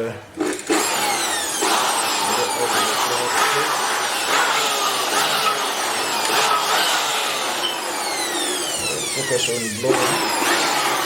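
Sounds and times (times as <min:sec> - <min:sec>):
electric blower rushing air: 0:00.4 - 0:11.0.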